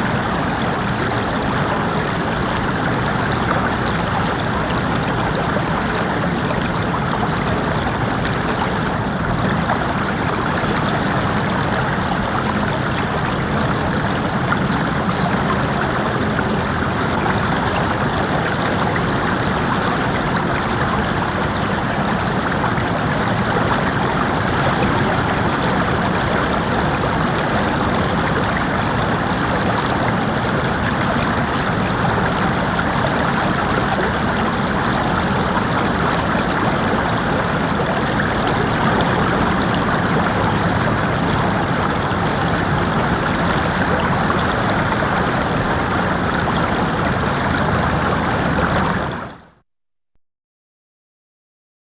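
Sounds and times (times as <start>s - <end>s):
stream flowing over rocks: 0.0s - 49.6s.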